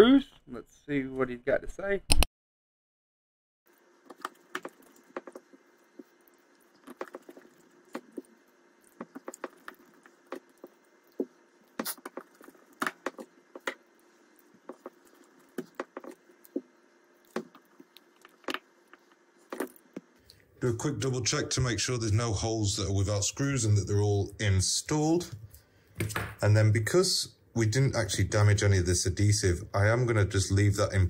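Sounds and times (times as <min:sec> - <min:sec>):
faint steady hum: 0:03.7 - 0:31.0.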